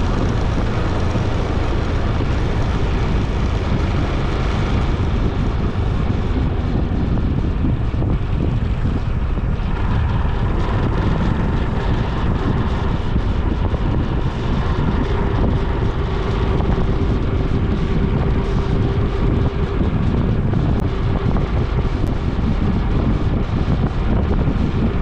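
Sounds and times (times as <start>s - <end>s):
road and vehicle noise: 0.0s - 25.0s
wind rushing over microphone: 0.0s - 25.0s.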